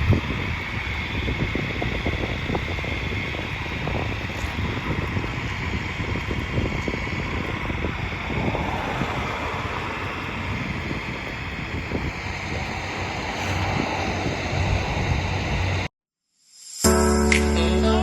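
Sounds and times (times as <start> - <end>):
tractor engine running: 0.0 - 15.9
wind on microphone: 0.0 - 15.9.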